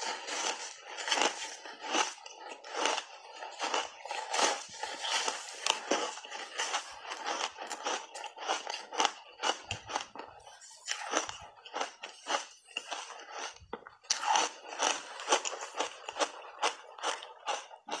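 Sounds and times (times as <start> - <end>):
loud crunchy chewing: 0.0 - 18.0.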